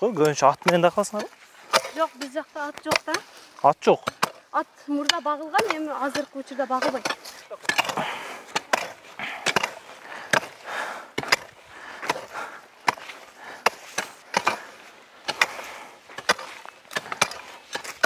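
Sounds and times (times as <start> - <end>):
earth scraping: 0.0 - 18.0
hoes chopping into soil: 0.0 - 18.0.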